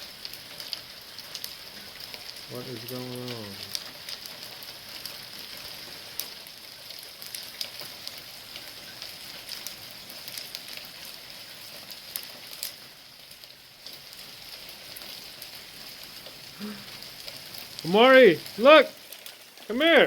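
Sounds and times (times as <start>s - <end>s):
hail hissing: 0.0s - 20.0s.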